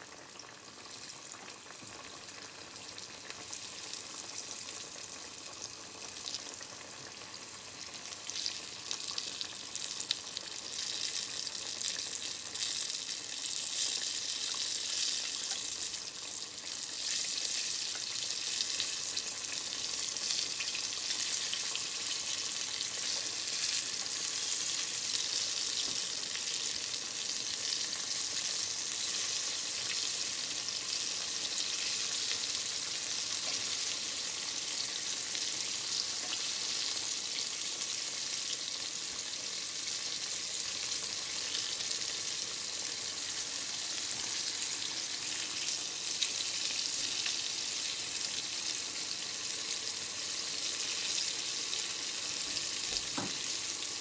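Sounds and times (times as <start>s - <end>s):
tempura sizzling in hot oil: 0.0s - 54.0s.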